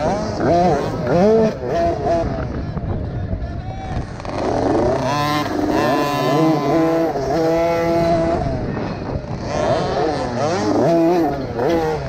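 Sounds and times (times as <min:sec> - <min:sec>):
motocross bike engine revving: 0:00.0 - 0:03.1, 0:03.9 - 0:12.0.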